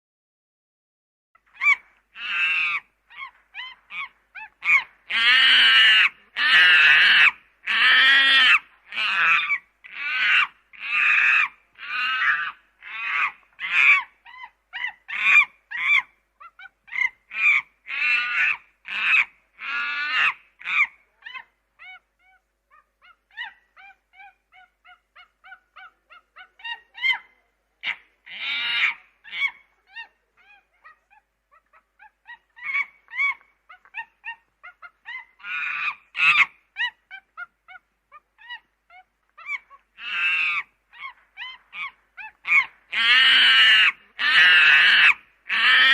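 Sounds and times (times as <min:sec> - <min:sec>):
monkey calling: 0:01.5 - 0:45.9.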